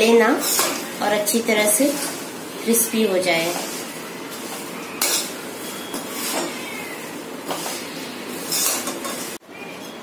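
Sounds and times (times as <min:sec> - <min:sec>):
spatula scraping metal pan: 0:00.4 - 0:09.4.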